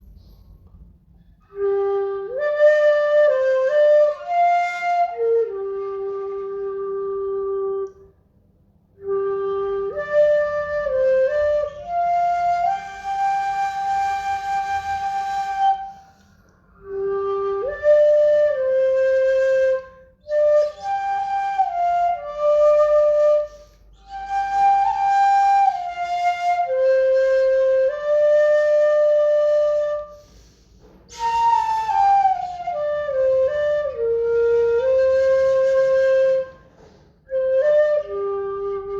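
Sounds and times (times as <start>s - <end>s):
bamboo flute melody: 1.2s - 8.1s, 8.9s - 38.9s.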